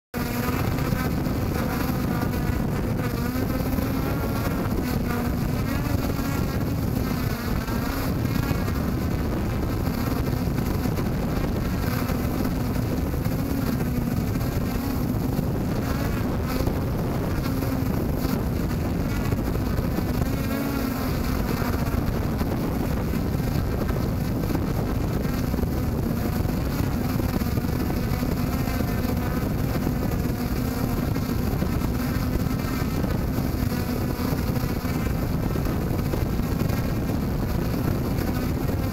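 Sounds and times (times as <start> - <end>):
propeller wash rushing: 0.2 - 38.9
quadcopter motors buzzing: 0.2 - 38.9.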